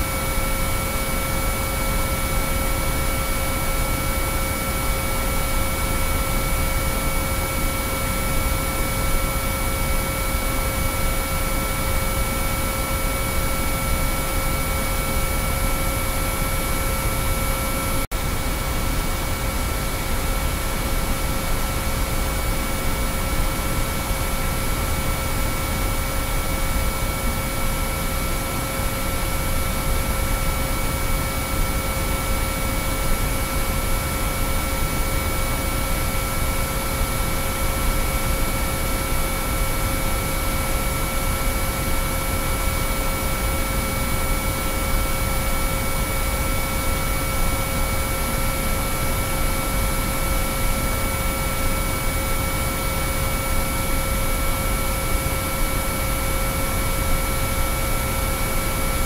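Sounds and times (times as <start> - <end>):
steady pure sine tones: 0.0 - 59.0.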